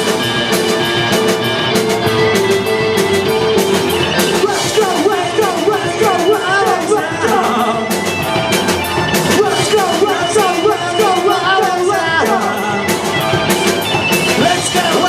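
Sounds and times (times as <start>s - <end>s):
bending lead melody: 0.0s - 15.0s
live rock band playing: 0.0s - 15.0s.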